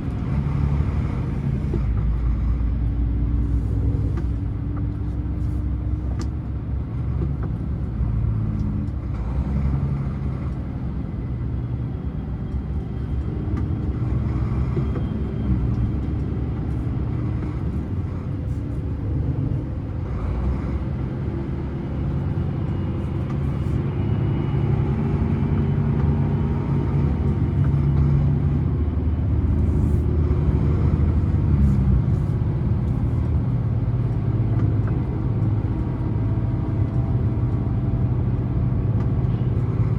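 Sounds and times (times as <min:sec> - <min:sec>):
truck diesel engine rumbling: 0:00.0 - 0:39.9.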